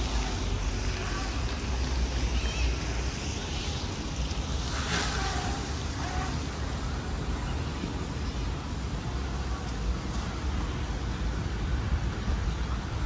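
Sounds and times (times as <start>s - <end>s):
faint background noise: 0.0s - 13.0s
low city rumble: 0.0s - 13.0s.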